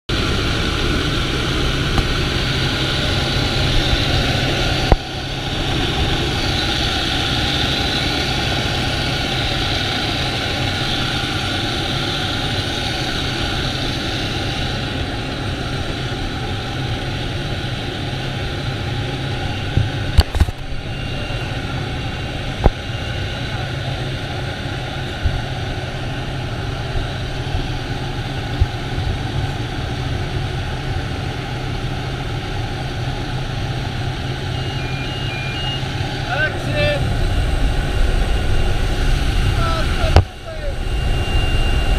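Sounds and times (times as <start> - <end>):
turboprop engine running: 0.1 - 41.9.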